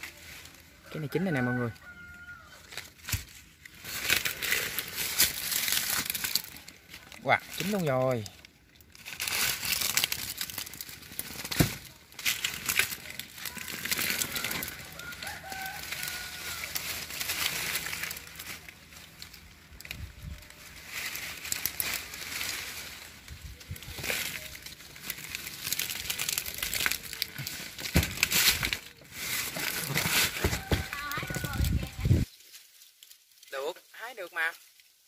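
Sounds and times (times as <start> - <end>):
dry leaves crunching: 0.0 - 35.0
leaves and twigs rustling: 0.0 - 35.0.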